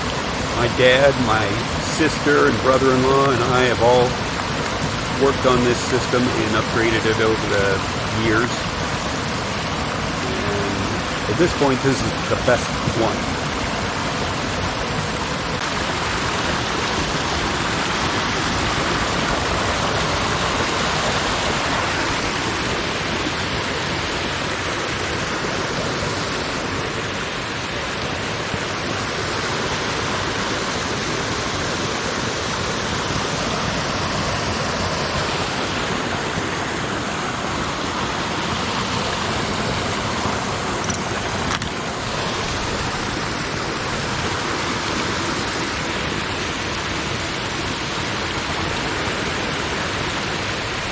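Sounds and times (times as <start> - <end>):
creek water rushing: 0.0 - 50.9.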